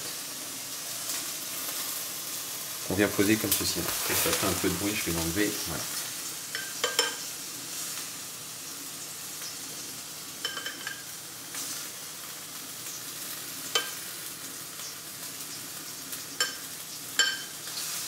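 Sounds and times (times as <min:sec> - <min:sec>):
oil sizzling in a frying pan: 0:00.0 - 0:18.0.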